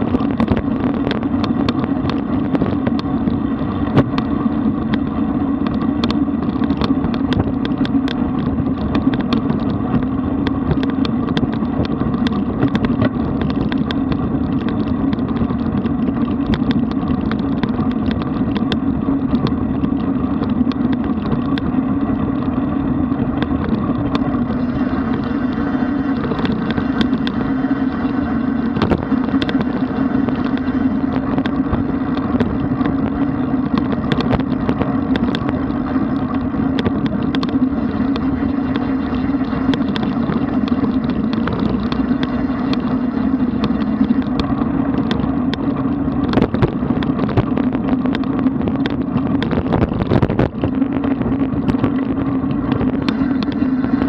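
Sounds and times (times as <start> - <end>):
bicycle clicks and rattles: 0.0 - 54.0
wind rush and road noise: 0.0 - 54.0.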